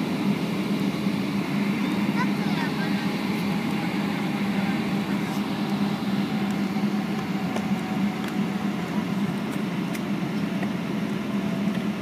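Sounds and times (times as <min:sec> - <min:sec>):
aircraft engines humming: 0:00.0 - 0:12.0.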